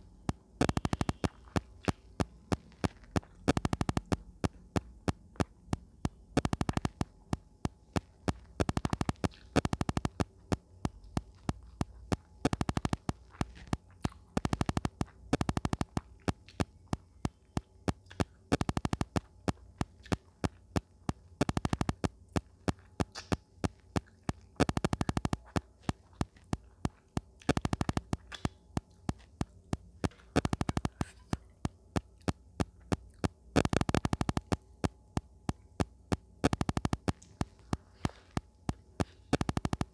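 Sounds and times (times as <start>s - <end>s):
faint steady hum: 0.0s - 39.9s
chewing mouth clicks: 0.3s - 39.9s.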